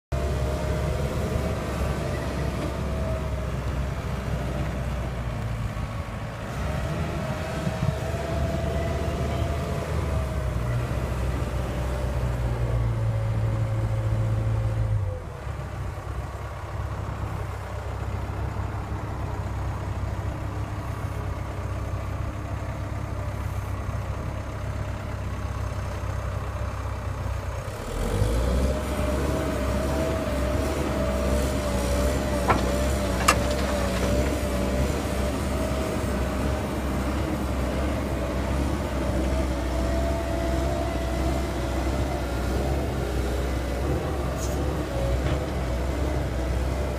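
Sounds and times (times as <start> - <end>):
diesel engine idling: 0.1 - 46.9
faint engine whine: 0.2 - 46.9.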